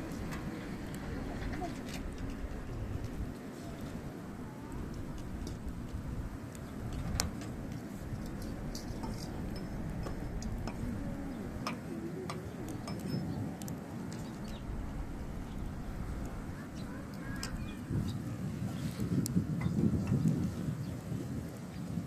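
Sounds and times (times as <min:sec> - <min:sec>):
firewood crackling and popping: 0:00.0 - 0:22.0
low steady fire rumble: 0:00.0 - 0:22.0.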